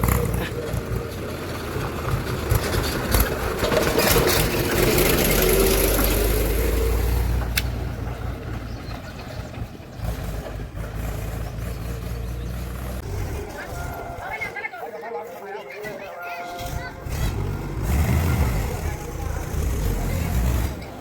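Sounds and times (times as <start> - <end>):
heavy vehicle engine running: 0.0 - 21.0.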